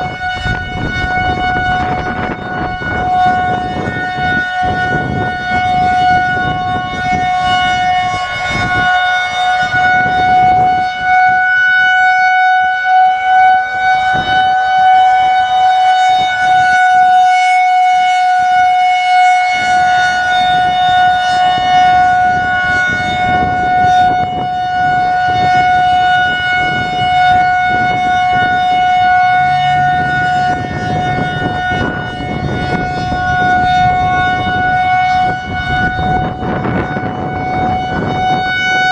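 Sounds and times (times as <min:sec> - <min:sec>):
gusty wind on microphone: 0:00.0 - 0:11.5, 0:13.7 - 0:17.2, 0:17.9 - 0:38.9
warning siren steady tone: 0:00.0 - 0:38.9.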